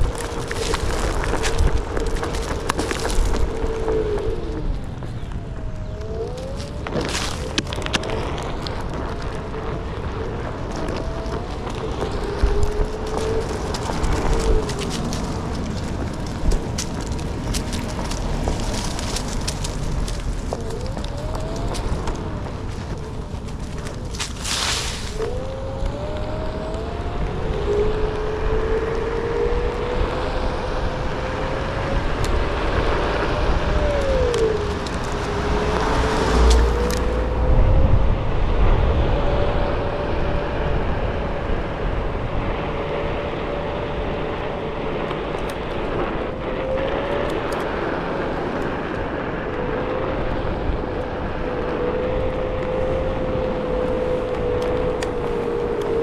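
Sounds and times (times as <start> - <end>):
electric hub motor whining: 0.0 - 56.0
low buffeting: 0.0 - 56.0
rustling dry leaves: 0.0 - 56.0
tyre rolling on asphalt: 0.0 - 56.0.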